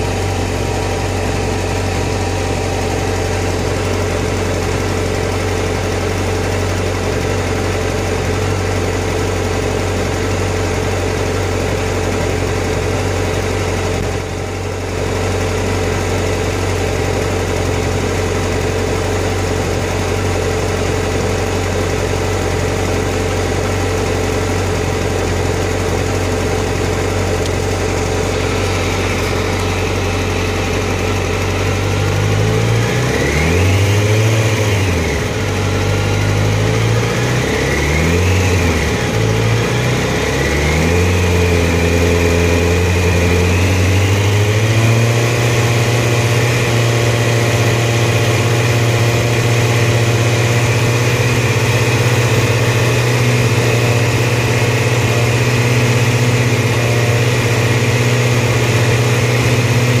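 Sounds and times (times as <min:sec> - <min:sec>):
motorcycle engine idling: 0:00.0 - 1:00.0.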